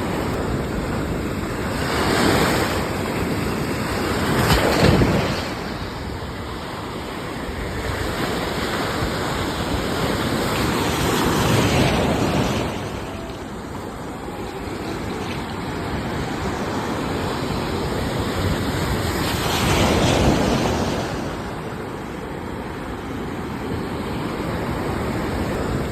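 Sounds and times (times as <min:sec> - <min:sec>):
ocean waves rushing: 0:00.0 - 0:25.9.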